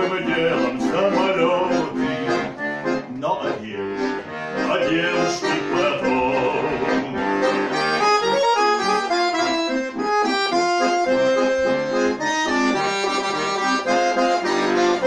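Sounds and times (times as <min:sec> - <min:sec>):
accordion playing: 0:00.0 - 0:15.0.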